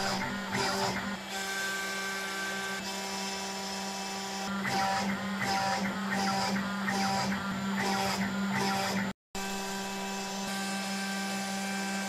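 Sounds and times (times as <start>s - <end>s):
end mill cutting plywood: 0.0s - 12.0s
router spindle whine: 0.0s - 12.0s.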